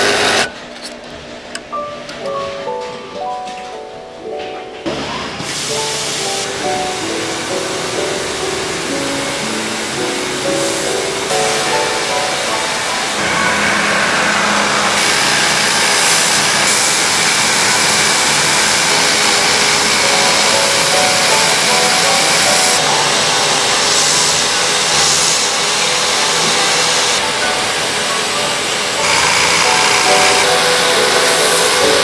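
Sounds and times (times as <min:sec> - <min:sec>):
machinery whirring and hissing: 0:04.9 - 0:32.0.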